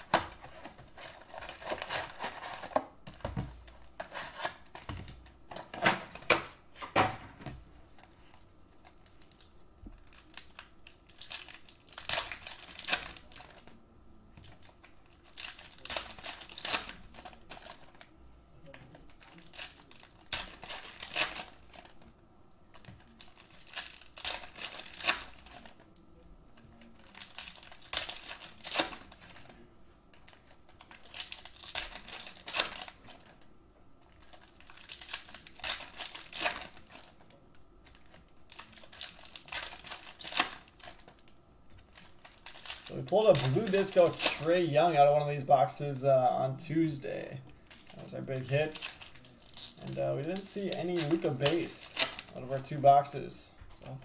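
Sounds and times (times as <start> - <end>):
foil wrappers crinkling and tearing: 0.0 - 2.8, 8.0 - 13.8, 14.4 - 18.0, 18.7 - 22.1, 22.7 - 25.9, 26.6 - 45.9, 47.6 - 54.0.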